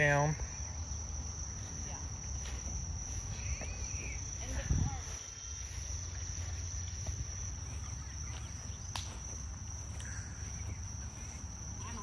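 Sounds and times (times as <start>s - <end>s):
insects chirping shrilly: 0.0s - 12.0s.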